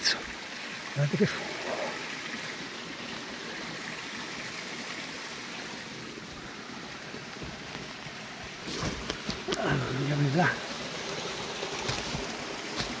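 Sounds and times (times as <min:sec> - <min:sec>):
stream rushing water: 0:00.0 - 0:13.0.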